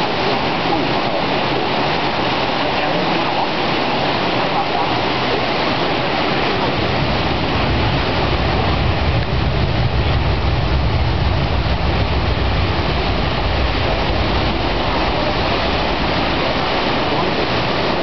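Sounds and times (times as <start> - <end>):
river rushing through rapids: 0.0 - 18.0.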